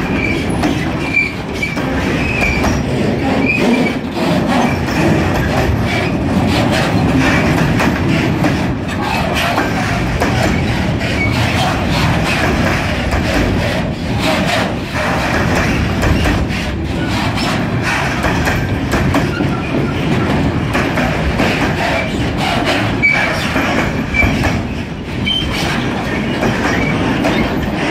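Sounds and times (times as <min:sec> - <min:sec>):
steel wheels rumbling on rails: 0:00.0 - 0:27.9
wagons clanking and rattling: 0:00.1 - 0:27.9.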